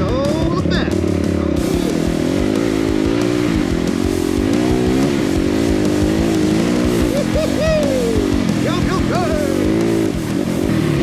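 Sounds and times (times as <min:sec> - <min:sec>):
dirt bike engine revving: 0:00.0 - 0:11.0
steady hiss: 0:01.6 - 0:11.0.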